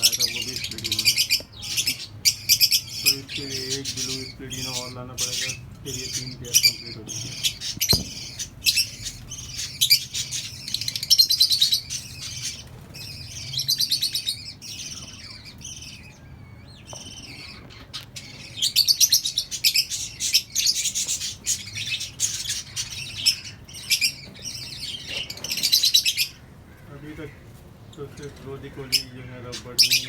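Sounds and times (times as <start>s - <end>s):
lovebirds chattering and chirping: 0.0s - 30.0s.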